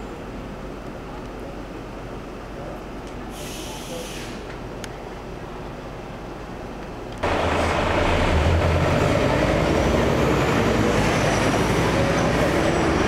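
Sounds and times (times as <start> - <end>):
background noise: 0.0 - 13.0
heavy vehicle engine rumbling: 0.0 - 13.0.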